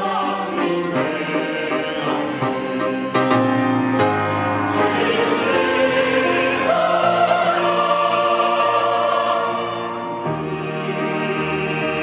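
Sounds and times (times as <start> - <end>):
mixed choir singing: 0.0 - 12.0.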